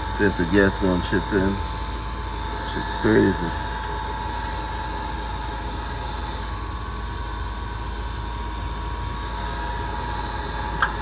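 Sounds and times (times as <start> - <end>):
furnace motor hum: 0.0 - 11.0
thin steady tone: 0.0 - 11.0.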